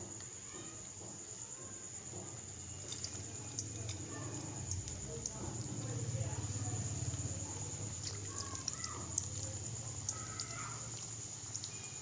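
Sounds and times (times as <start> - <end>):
food sizzling in oil: 0.2 - 12.0.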